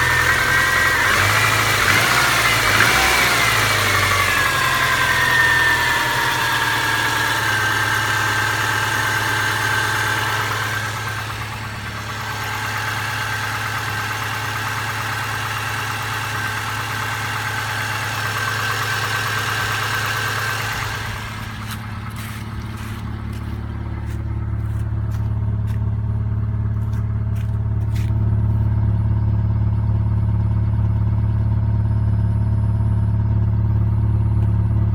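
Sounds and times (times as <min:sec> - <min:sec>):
car engine knocking and droning: 0:00.0 - 0:34.9.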